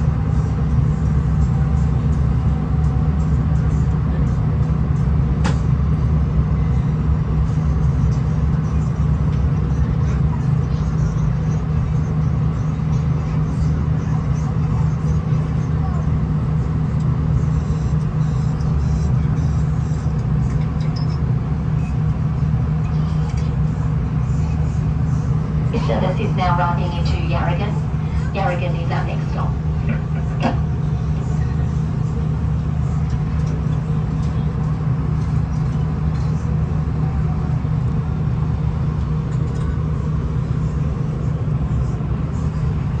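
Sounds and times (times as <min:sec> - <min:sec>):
diesel engine drone: 0:00.0 - 0:43.0.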